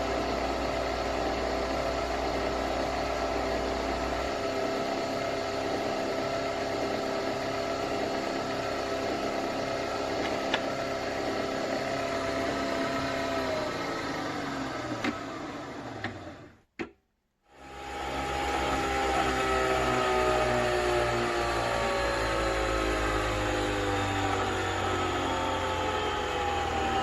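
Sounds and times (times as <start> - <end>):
coffee machine motor whine: 0.0 - 16.6, 17.5 - 27.0.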